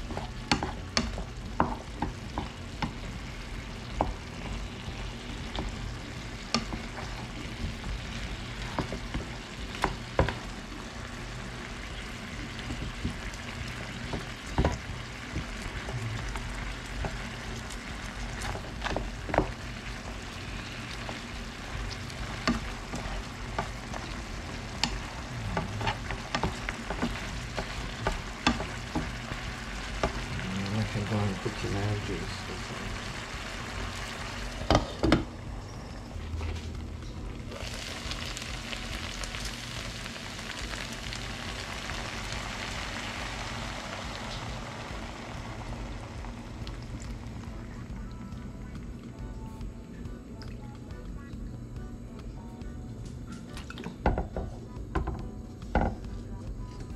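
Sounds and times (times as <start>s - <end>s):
meat sizzling in a frying pan: 0.0s - 47.8s.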